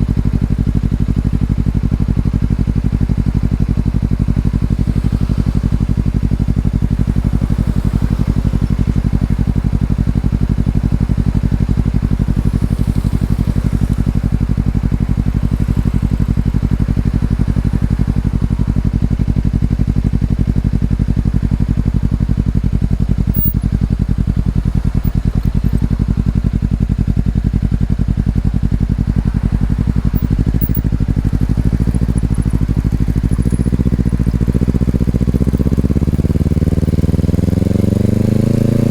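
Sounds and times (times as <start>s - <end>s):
motorcycle exhaust at steady revs: 0.0s - 38.9s.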